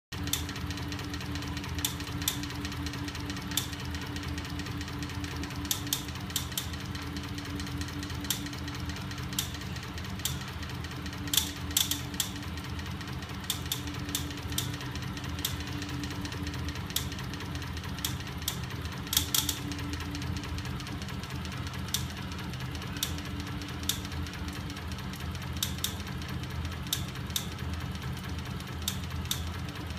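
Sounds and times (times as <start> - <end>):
linkages clicking and ticking: 0.2 - 29.9.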